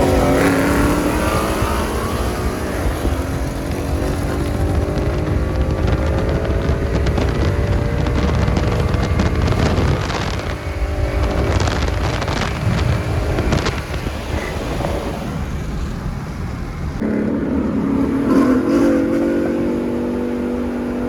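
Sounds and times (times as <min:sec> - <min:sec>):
engine drone: 0:00.0 - 0:15.6, 0:16.7 - 0:21.0
car engines and exhaust: 0:00.0 - 0:21.0.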